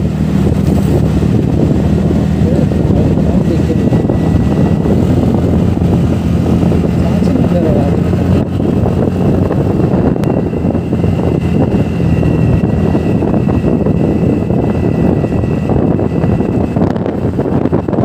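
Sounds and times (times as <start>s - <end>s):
scooter engine cruising: 0.0s - 18.0s
wind rushing over microphone: 0.0s - 18.0s.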